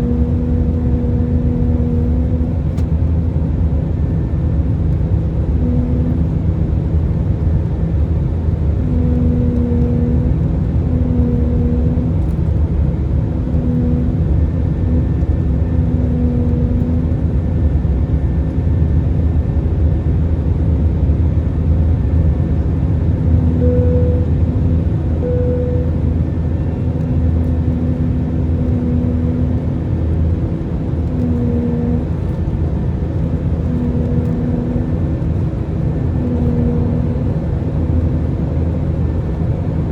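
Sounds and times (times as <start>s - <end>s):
airplane cabin engine rumble: 0.0s - 39.9s
low hum: 0.0s - 39.9s.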